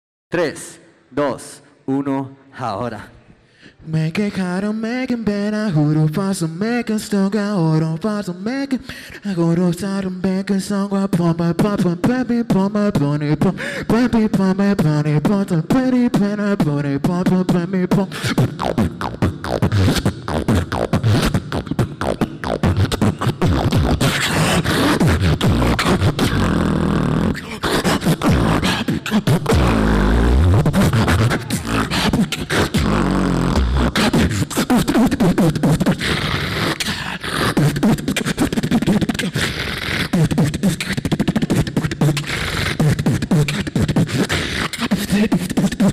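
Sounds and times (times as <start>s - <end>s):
beatboxing: 2.9s - 45.9s.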